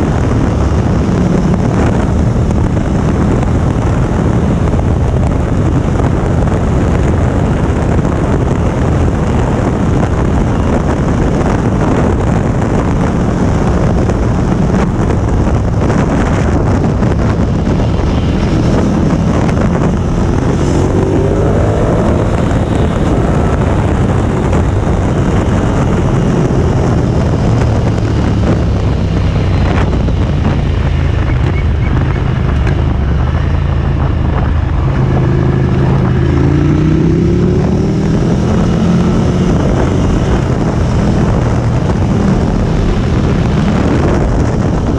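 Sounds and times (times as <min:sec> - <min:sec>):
motorcycle engine running: 0:00.0 - 0:44.9
wind rushing over microphone: 0:00.0 - 0:44.9.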